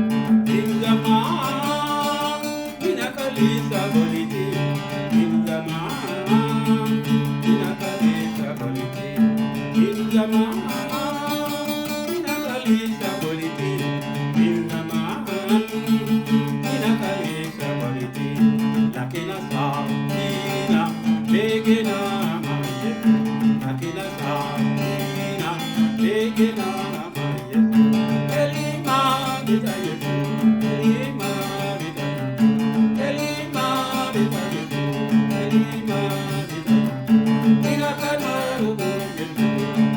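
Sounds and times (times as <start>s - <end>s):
guitar plucked and strummed: 0.0s - 39.9s
person singing: 0.0s - 39.9s.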